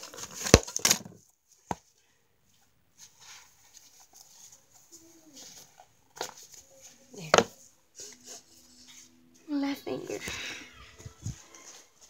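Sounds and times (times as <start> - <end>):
fabric rustling against camera: 1.4 - 12.0.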